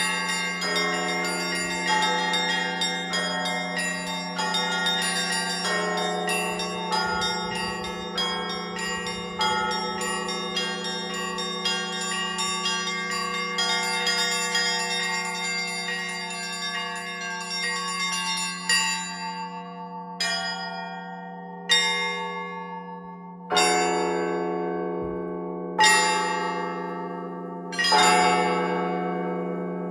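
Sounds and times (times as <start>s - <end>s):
church bells ringing: 0.0s - 29.9s.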